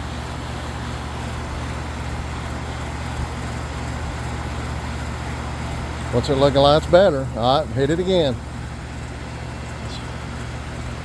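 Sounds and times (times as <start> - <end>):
compressor hum: 0.0 - 11.0
condenser fan rushing: 0.0 - 11.0.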